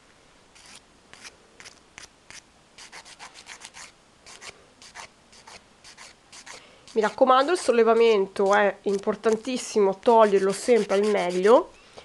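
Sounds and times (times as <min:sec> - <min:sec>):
nail file rasping: 0:00.6 - 0:09.5, 0:10.2 - 0:11.7.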